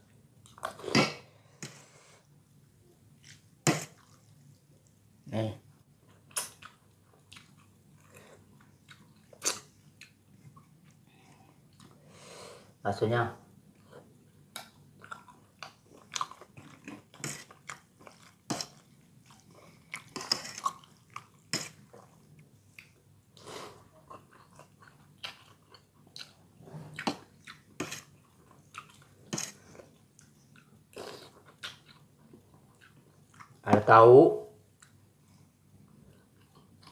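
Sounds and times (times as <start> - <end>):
person chewing food: 3.1 - 5.0, 6.0 - 12.0, 13.8 - 33.6, 34.7 - 36.9.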